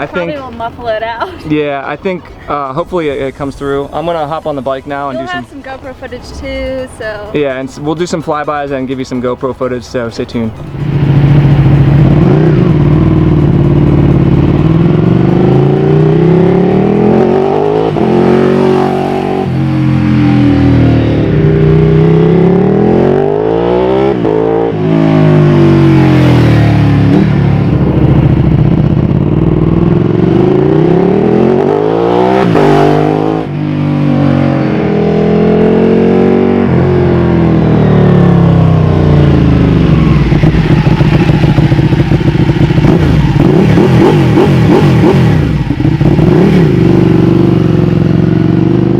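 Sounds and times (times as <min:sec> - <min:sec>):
motorcycle engine revving: 0:05.4 - 0:48.9.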